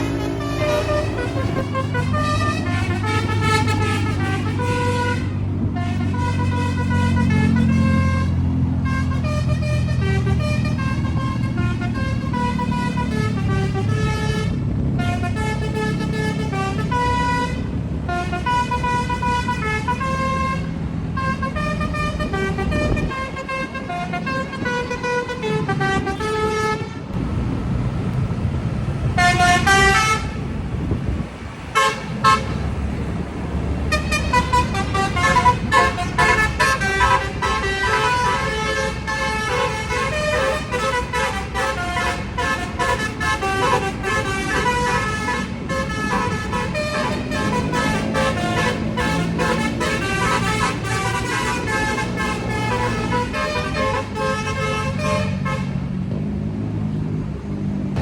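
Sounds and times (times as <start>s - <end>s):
multi-tone bus horn melody: 0.0s - 27.2s, 29.1s - 55.9s
bus engine running: 0.0s - 58.0s.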